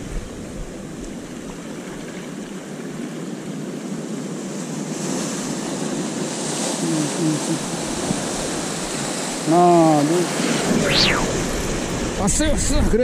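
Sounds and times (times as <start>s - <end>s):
sea surf washing against rocks: 0.0s - 13.0s.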